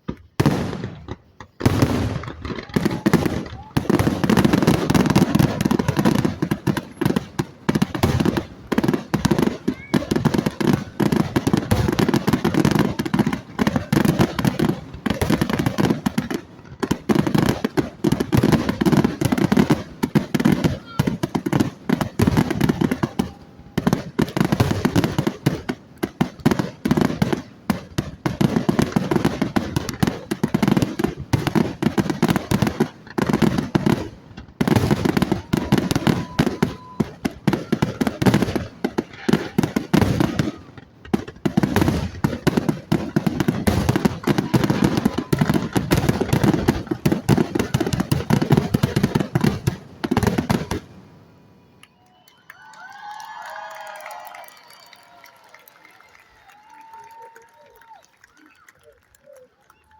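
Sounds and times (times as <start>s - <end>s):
fireworks cracking and banging: 0.0s - 52.2s, 52.8s - 59.9s.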